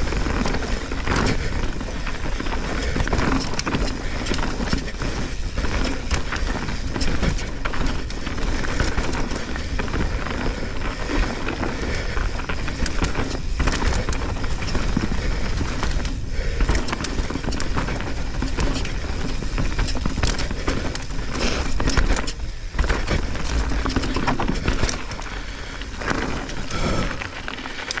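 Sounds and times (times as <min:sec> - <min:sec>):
bike chain and frame rattling: 0:00.0 - 0:28.0
bike tyres rolling over dirt: 0:00.0 - 0:28.0.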